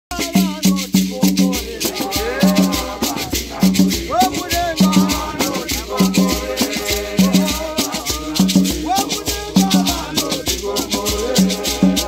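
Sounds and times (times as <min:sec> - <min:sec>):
gourd rattles shaking: 0:00.1 - 0:12.0
hand drum beats: 0:00.1 - 0:12.0
men's choir singing: 0:00.2 - 0:12.0.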